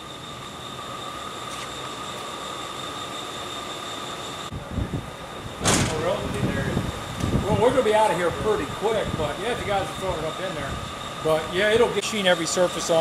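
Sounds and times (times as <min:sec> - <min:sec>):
factory machinery whine: 0:00.0 - 0:13.0.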